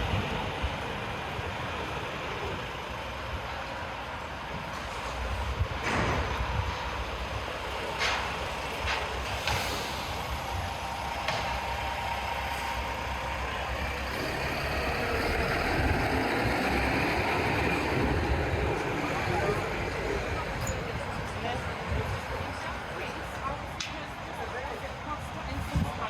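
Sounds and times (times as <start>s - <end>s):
heavy traffic: 0.0s - 26.0s.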